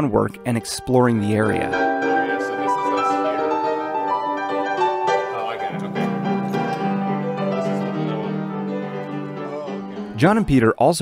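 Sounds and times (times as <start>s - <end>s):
instrumental melody of held notes: 0.0s - 10.6s.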